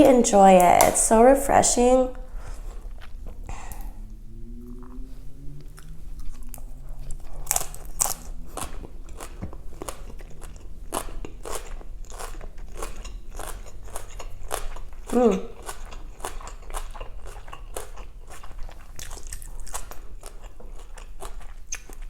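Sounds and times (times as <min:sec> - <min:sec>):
crunchy chewing: 0:02.3 - 0:22.0.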